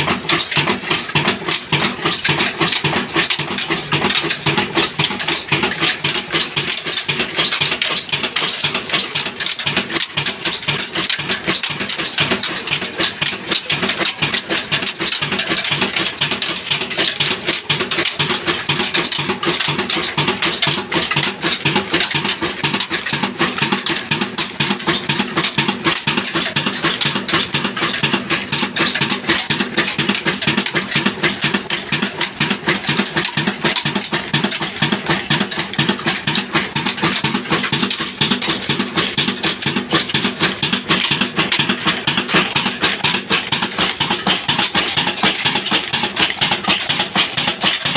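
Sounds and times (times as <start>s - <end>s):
stationary diesel engine clattering: 0.0s - 47.9s.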